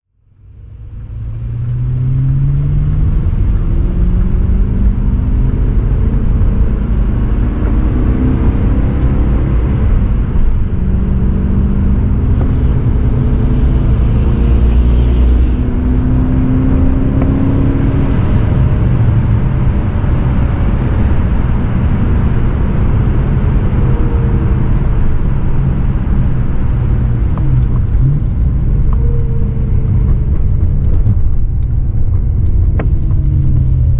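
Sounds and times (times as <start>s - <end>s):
car engine accelerating: 0.2s - 33.9s.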